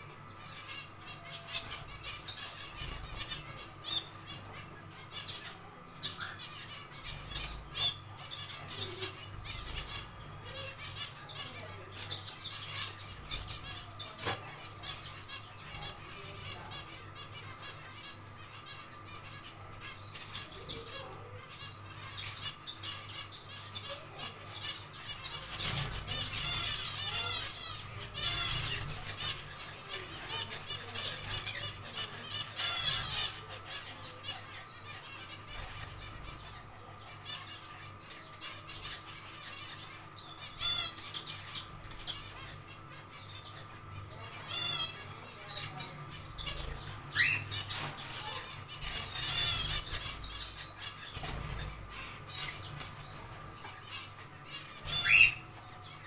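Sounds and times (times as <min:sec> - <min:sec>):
finches chirping: 0:00.0 - 0:56.0
steady hum: 0:00.0 - 0:56.0.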